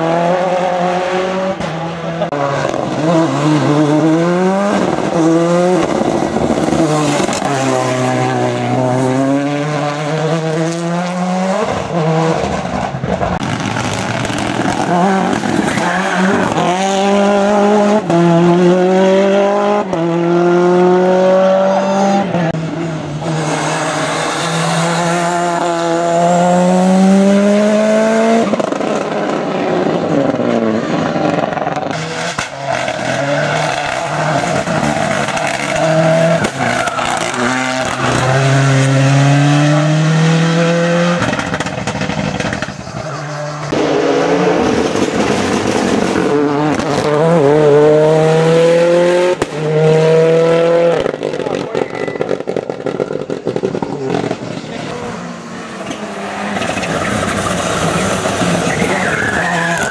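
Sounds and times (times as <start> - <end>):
rally car engines accelerating hard: 0.0 - 59.9.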